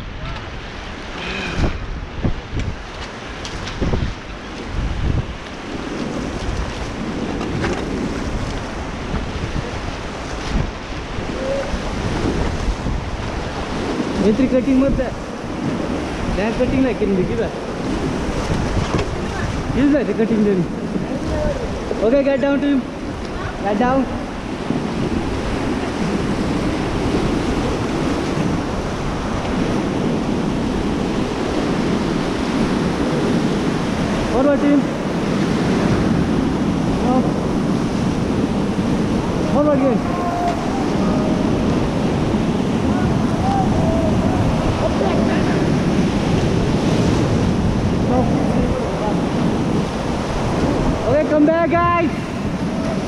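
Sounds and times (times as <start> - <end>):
wind buffeting microphone: 0.0 - 53.0
river rapids rushing: 2.8 - 53.0.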